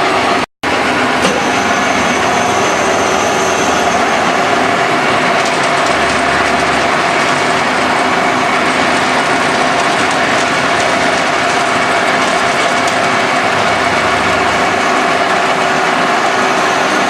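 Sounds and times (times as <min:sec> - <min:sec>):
machinery running: 0:00.7 - 0:17.0.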